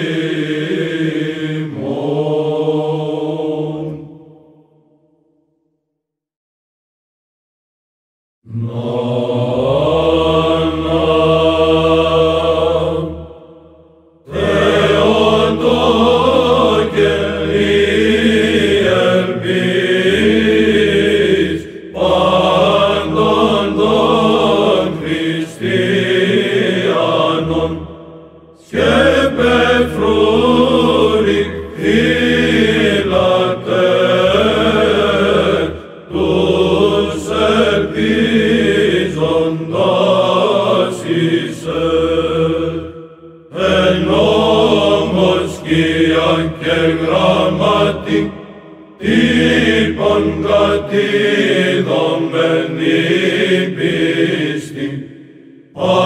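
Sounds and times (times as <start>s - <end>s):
choir chanting over a low drone: 0.0s - 5.1s, 8.5s - 56.0s.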